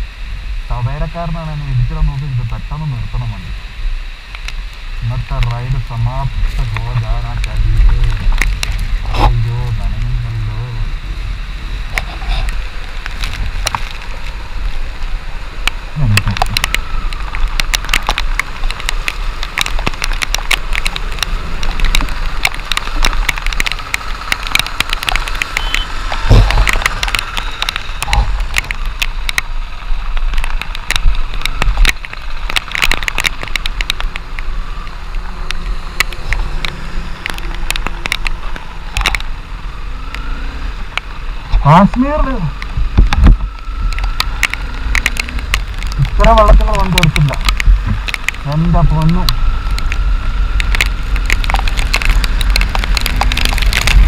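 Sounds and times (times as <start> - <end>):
wet tyres on road: 0.0 - 54.0
wind rumble: 0.0 - 54.0
raindrops clicking on camera: 4.2 - 54.0
motorcycle engine: 6.3 - 54.0.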